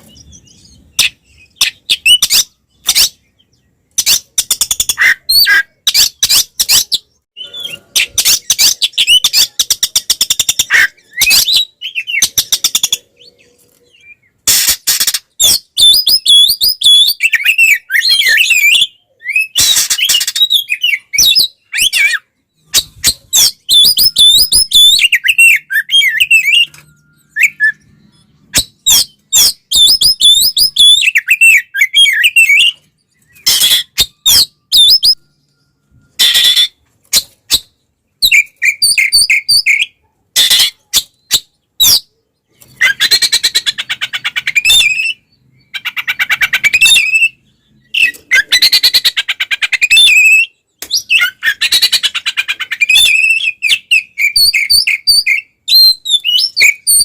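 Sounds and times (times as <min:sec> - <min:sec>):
songbird singing loud varied song: 0:00.0 - 0:57.0.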